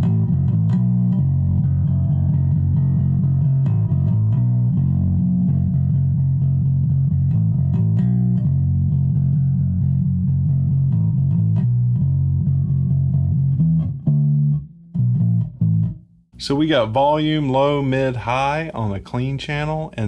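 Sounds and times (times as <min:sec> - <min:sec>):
electric bass plucked notes: 0:00.0 - 0:20.0.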